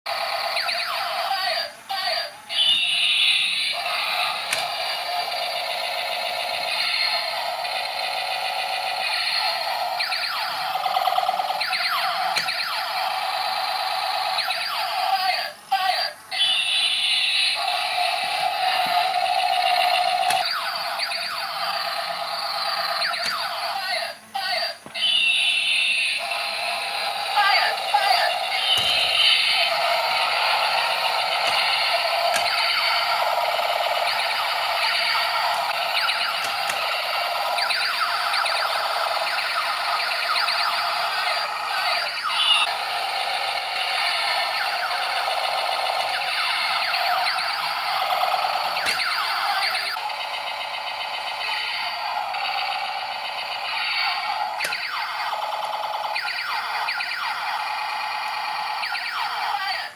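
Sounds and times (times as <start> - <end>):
toy robot warbling siren effect: 0.1 - 59.9.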